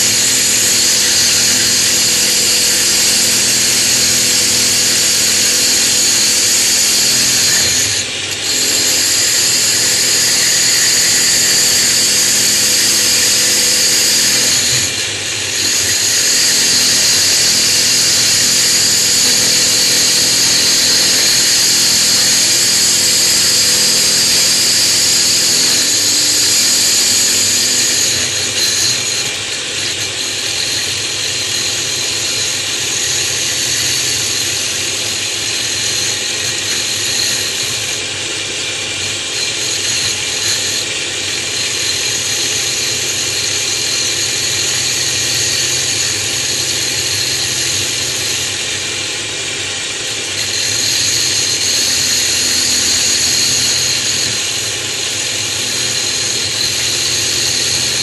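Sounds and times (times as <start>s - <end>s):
electric router whining: 0.0s - 58.0s.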